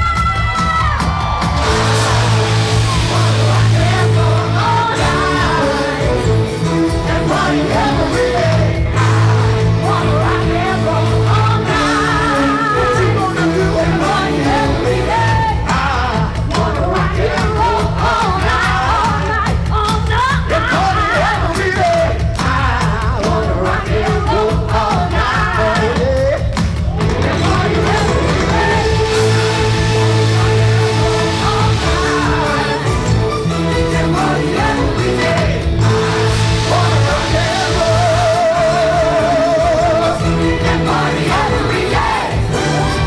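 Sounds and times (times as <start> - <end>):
loud pop-rock music with singing: 0.0 - 43.0.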